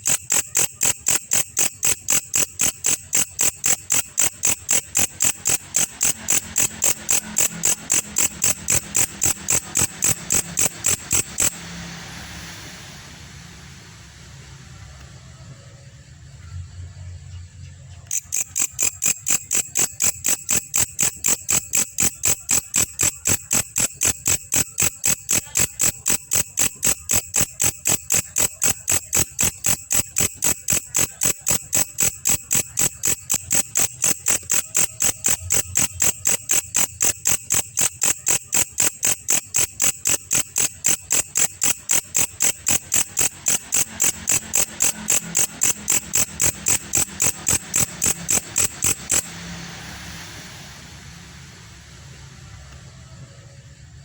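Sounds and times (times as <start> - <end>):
insect chirping: 0.0 - 54.0.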